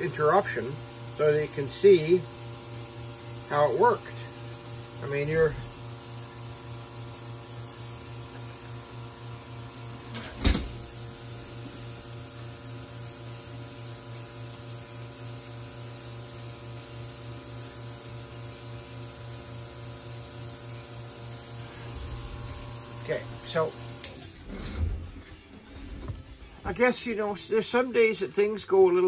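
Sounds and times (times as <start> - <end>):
electrical hum: 0.0 - 26.8.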